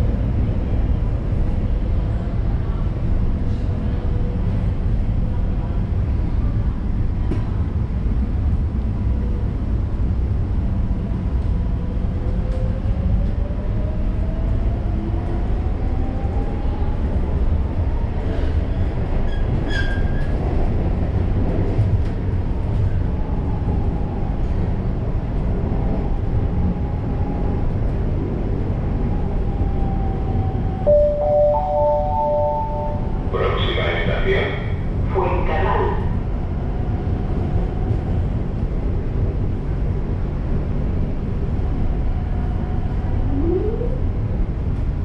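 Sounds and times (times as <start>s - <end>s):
train rumble: 0.0s - 45.0s.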